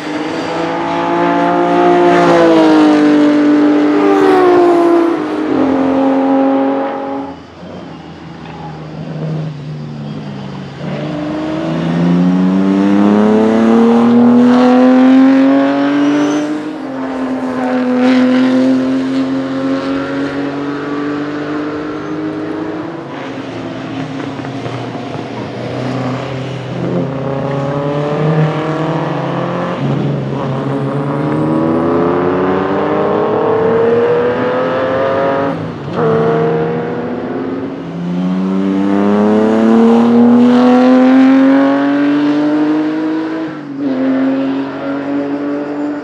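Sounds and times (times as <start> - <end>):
racing engine accelerating: 0.0 - 8.0, 10.7 - 46.0.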